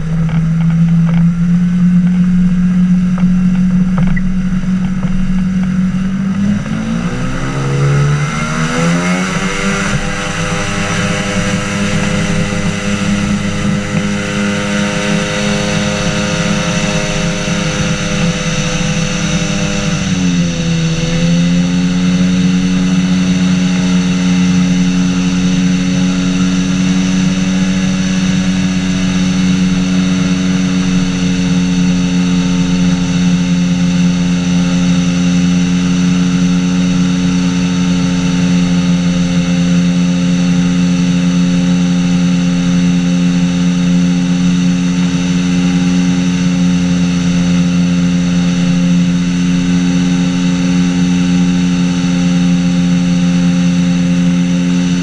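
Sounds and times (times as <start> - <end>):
engine and propeller drone: 0.0 - 55.0.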